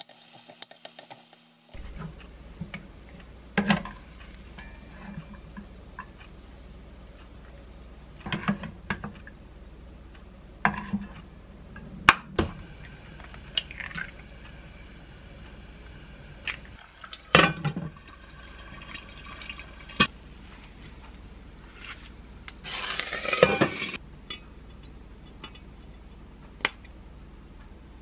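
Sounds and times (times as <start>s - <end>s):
low steady hum: 1.7s - 28.0s.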